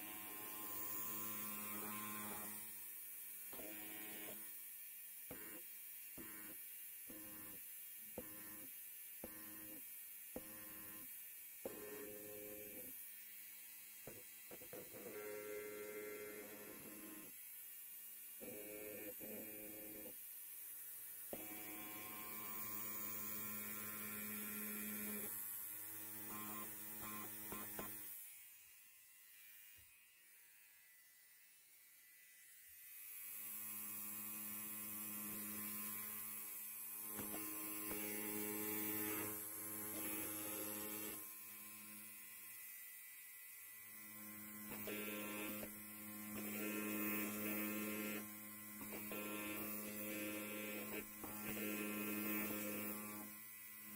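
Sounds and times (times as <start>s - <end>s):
electric hair clipper buzzing: 0.0s - 53.9s.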